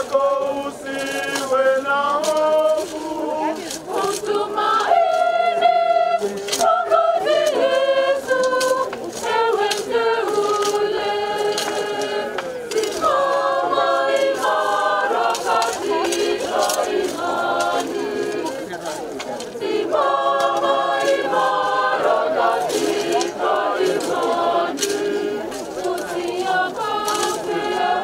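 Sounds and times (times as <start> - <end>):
group singing a hymn unaccompanied: 0.0 - 28.0.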